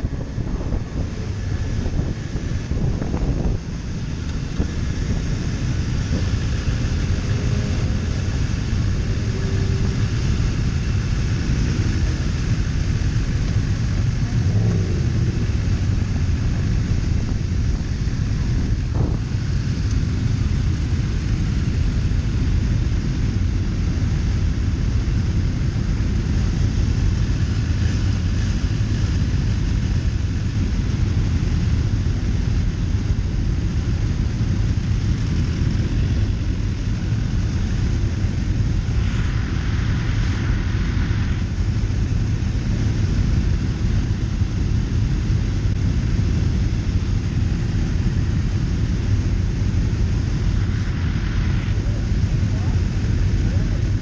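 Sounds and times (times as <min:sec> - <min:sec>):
motorcycles idling: 0:00.0 - 0:54.0.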